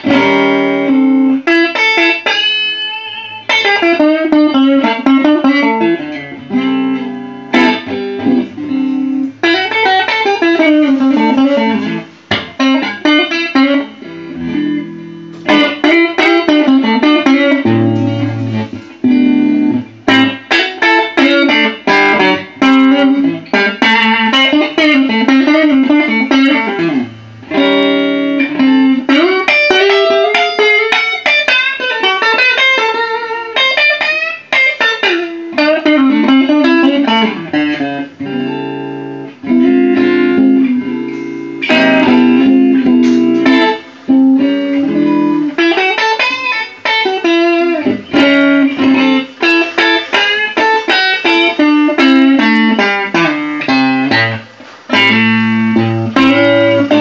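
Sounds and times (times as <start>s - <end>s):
electric guitar through amplifier: 0.0s - 57.0s.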